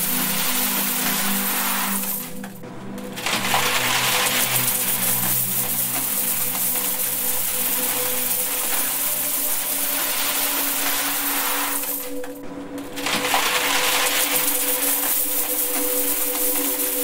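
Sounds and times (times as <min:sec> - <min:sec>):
coins pouring into metal box: 0:00.0 - 0:02.4, 0:03.2 - 0:12.3, 0:13.0 - 0:17.0
low humming tones: 0:00.0 - 0:17.0.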